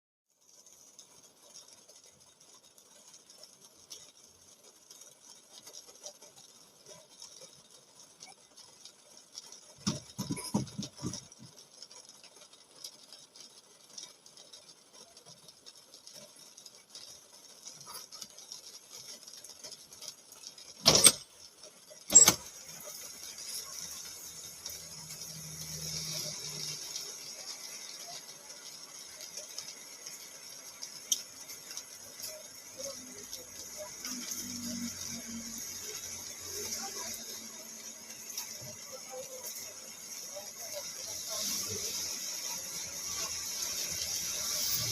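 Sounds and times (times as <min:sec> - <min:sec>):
rain on a car: 0:00.3 - 0:44.9.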